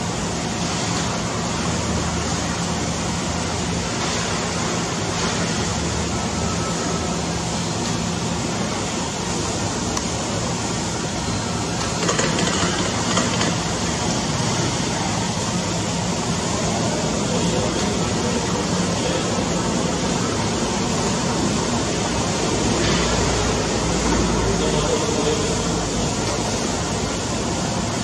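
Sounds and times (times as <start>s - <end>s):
jet engines at taxi thrust: 0.0s - 28.0s.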